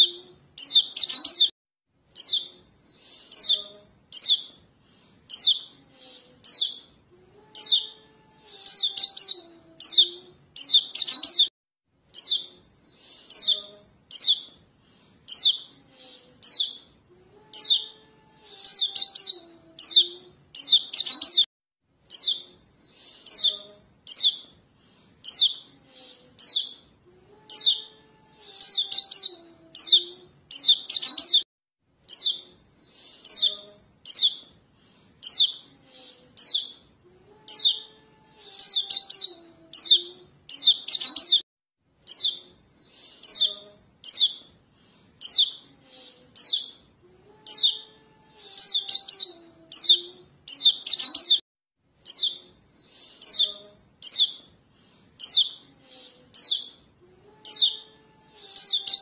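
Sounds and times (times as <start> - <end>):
fledgling birds chirping: 0.0 - 1.5, 2.1 - 11.5, 12.1 - 31.4, 32.0 - 36.9, 37.5 - 41.4, 42.1 - 46.8, 47.5 - 51.4, 52.0 - 59.0.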